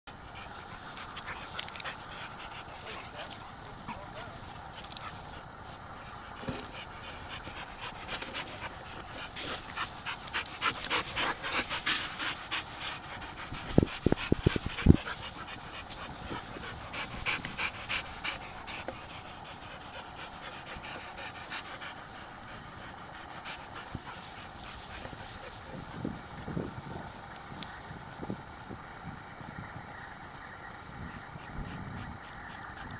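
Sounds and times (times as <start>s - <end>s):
dogs panting: 0.1s - 28.8s, 30.4s - 32.9s.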